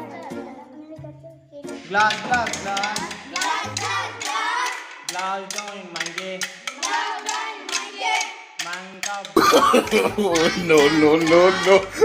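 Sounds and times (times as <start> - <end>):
sticks clicking in time: 1.7 - 11.9
boys singing folk song: 1.8 - 12.0.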